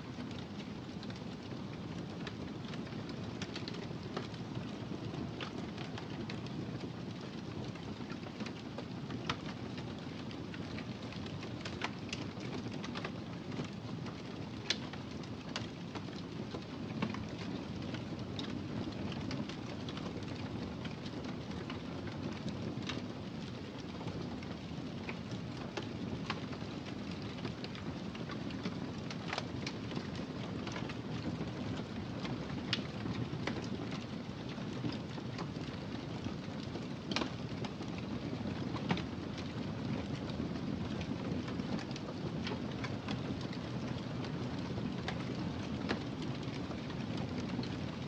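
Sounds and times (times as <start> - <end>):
low rumble of flame: 0.0 - 48.0
fire crackling and popping: 0.1 - 48.0.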